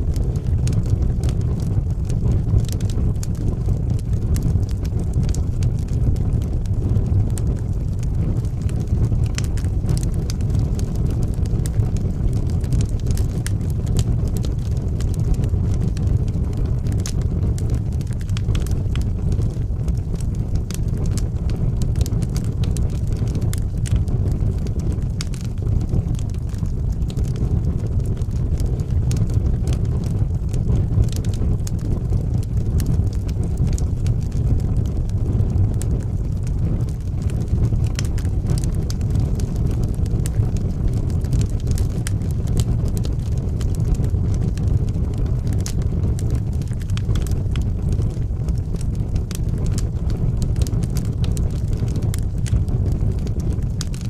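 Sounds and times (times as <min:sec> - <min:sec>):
fire flames roaring: 0:00.0 - 0:54.0
wood crackling and popping: 0:00.0 - 0:54.0.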